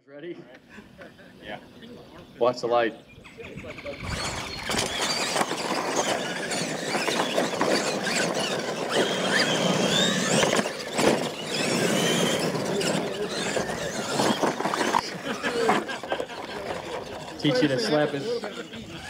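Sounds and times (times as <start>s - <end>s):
tyres on dirt: 0.5s - 19.0s
rc truck motor whine: 1.8s - 19.0s.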